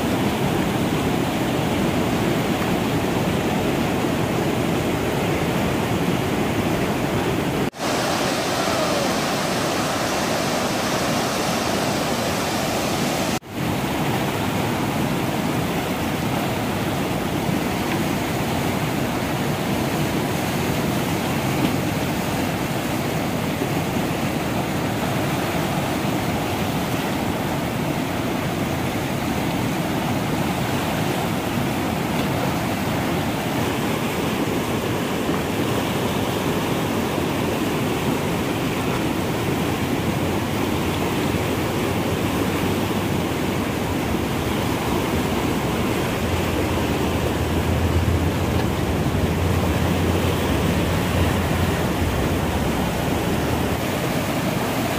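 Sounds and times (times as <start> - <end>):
whitewater rapids rushing: 0.0 - 54.9.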